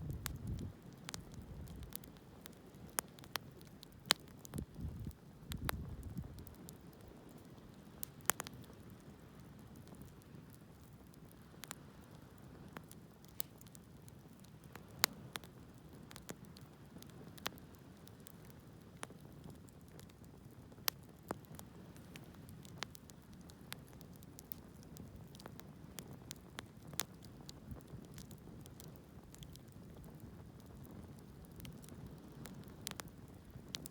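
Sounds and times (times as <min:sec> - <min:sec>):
wood crackling and popping: 0:00.0 - 0:33.9.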